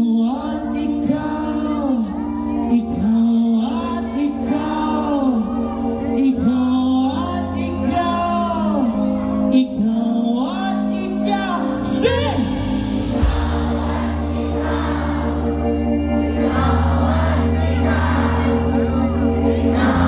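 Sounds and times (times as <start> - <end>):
live pop band with singing: 0.0 - 20.0.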